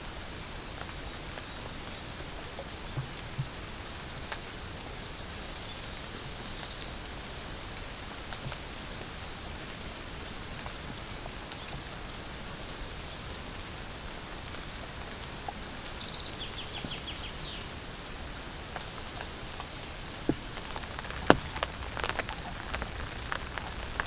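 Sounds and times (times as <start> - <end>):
light rain on a tarp: 0.0 - 24.0.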